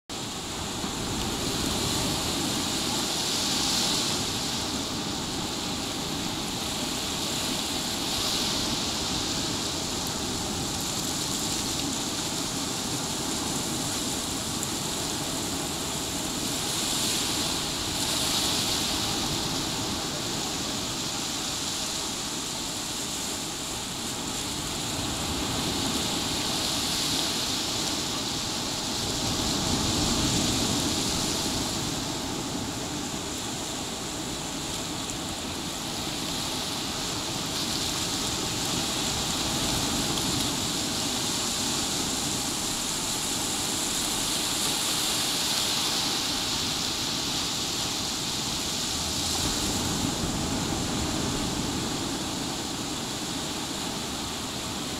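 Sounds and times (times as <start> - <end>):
waves breaking on beach: 0.1 - 54.9.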